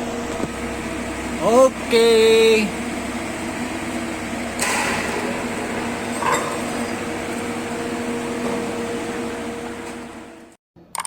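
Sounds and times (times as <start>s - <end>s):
low machine hum: 0.0s - 10.6s.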